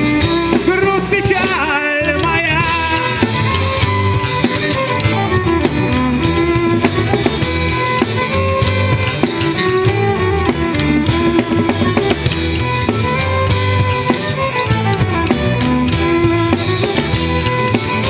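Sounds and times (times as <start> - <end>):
bass: 0.0 - 18.0
drum kit playing: 0.0 - 18.0
guitars: 0.0 - 18.0.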